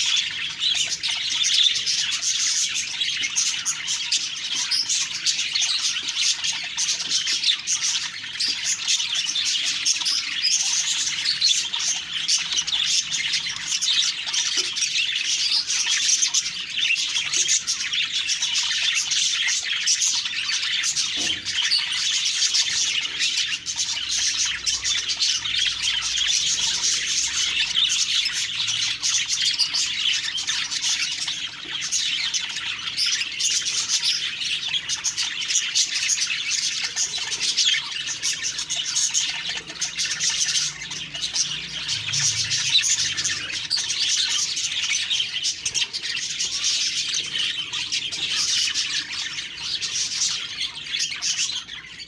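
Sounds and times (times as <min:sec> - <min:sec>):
budgerigars chirping and warbling: 0:00.0 - 0:52.0.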